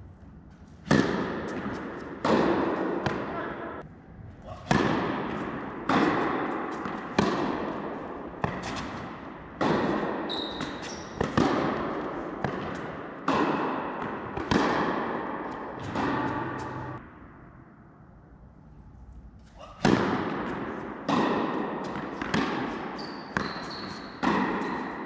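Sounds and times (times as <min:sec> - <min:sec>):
tennis ball bouncing on court: 0:00.6 - 0:03.8, 0:04.7 - 0:17.0, 0:19.8 - 0:25.0
tennis ball hit by rackets: 0:00.6 - 0:03.8, 0:04.5 - 0:17.0, 0:19.8 - 0:25.0.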